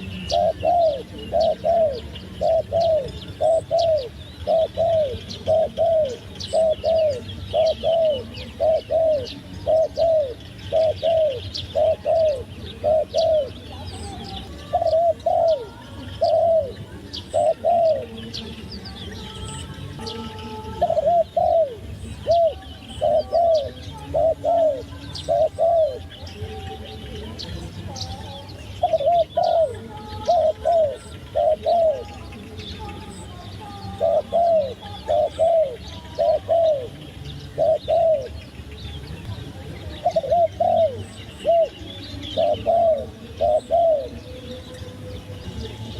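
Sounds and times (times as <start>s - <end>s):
dove cooing: 0.0s - 38.7s, 39.6s - 44.7s
small birds chirping: 0.0s - 45.9s.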